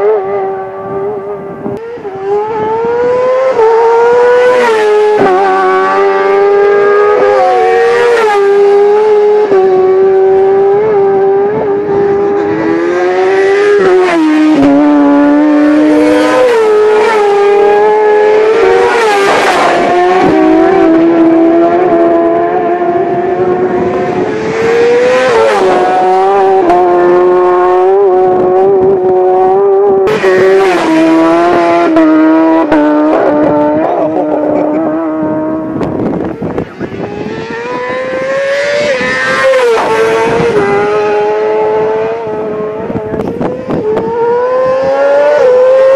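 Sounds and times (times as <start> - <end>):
racing motorcycles passing: 0.0 - 45.9.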